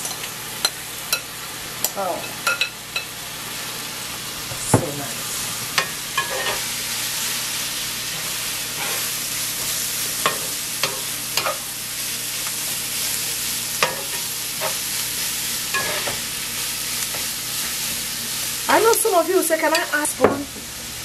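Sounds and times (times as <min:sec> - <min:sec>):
cauliflower sizzling in a pan: 0:00.0 - 0:21.0.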